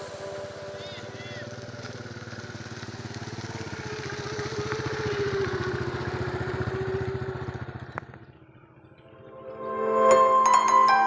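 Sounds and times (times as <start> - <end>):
small engine running: 0.0 - 9.3.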